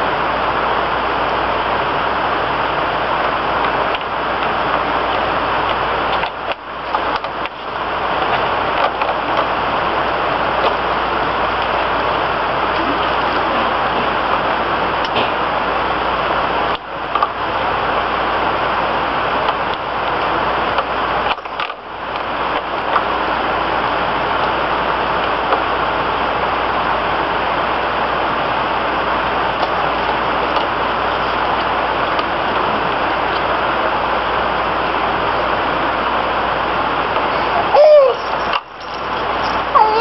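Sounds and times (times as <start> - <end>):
loud steady hissing: 0.0 - 40.0.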